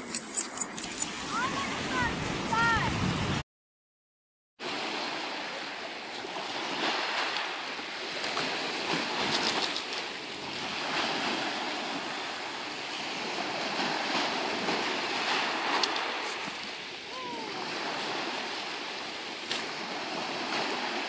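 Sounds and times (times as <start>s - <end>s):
waves washing up a shingle beach: 0.8s - 3.4s, 4.6s - 21.0s.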